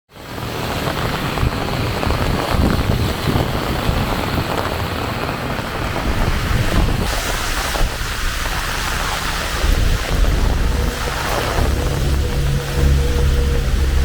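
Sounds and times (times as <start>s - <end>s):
heavy rain: 0.1s - 14.0s
wind buffeting microphone: 0.2s - 14.0s.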